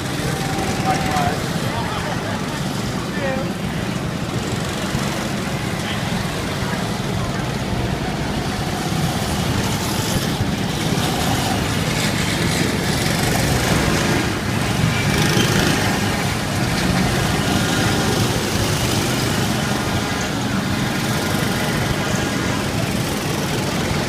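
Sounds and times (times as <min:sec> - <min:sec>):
outdoor street noise: 0:00.0 - 0:24.0
small engines running: 0:00.0 - 0:24.0.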